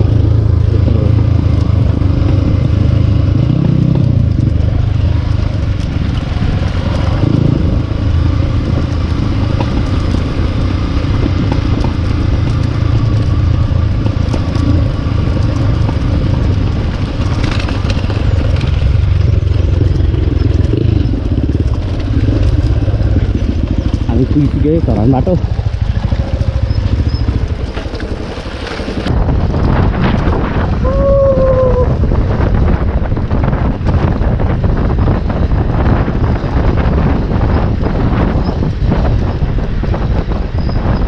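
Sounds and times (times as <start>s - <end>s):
dirt bike engine running: 0.0s - 30.8s, 31.9s - 41.0s.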